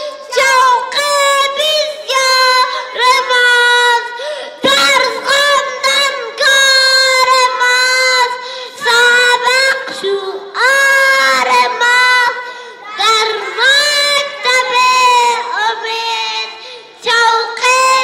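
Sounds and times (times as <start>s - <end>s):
boy singing into a microphone: 0.0s - 18.0s.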